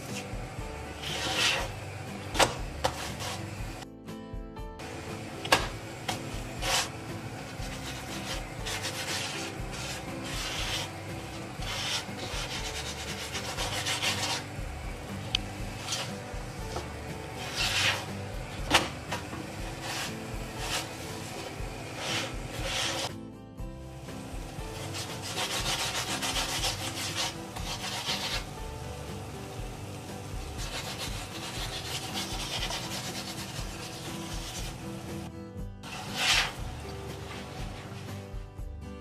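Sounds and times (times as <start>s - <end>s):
spatula scraping on griddle: 0.0s - 3.8s, 4.9s - 23.2s, 24.1s - 38.4s.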